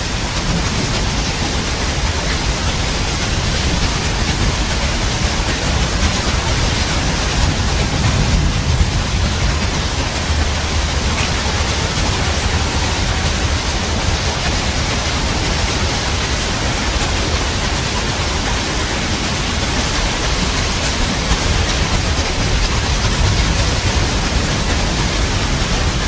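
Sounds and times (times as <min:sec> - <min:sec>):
heavy rain hiss: 0:00.0 - 0:26.0
low rumble: 0:00.2 - 0:26.0.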